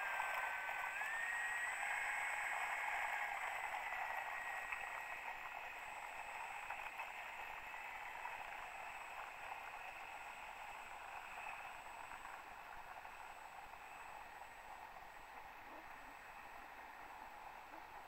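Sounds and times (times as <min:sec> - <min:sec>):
model plane motor whirring: 0:00.0 - 0:16.6.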